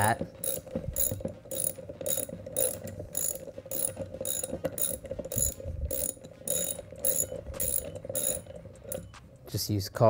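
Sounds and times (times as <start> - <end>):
hand ratchet clicking: 0.0 - 9.2.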